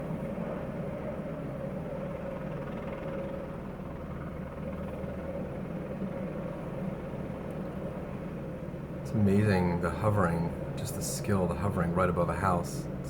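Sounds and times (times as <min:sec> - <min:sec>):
helicopter rotor chop and turbine whine: 0:00.0 - 0:13.0.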